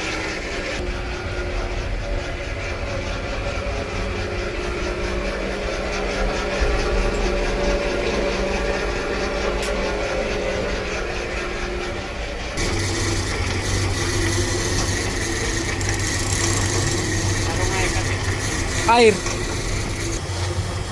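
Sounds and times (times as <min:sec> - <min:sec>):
machine engine humming: 0:00.0 - 0:20.9.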